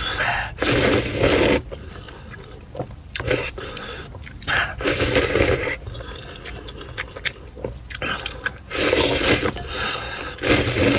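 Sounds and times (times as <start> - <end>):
person chewing and biting food: 1.6 - 10.9.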